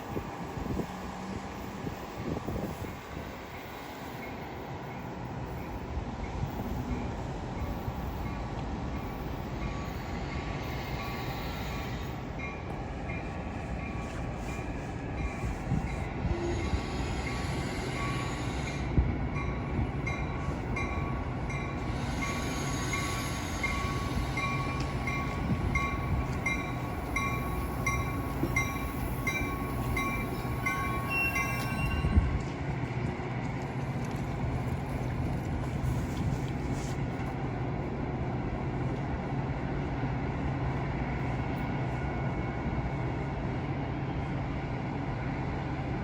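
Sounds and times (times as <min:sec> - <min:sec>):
train rumbling: 0:00.0 - 0:46.0.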